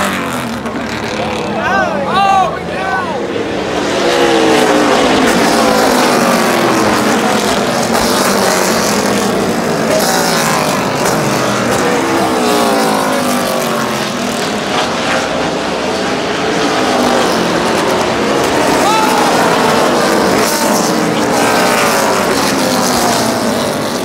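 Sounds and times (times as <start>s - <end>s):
crowd noise: 0.0s - 24.0s
race car engines passing: 0.0s - 24.0s.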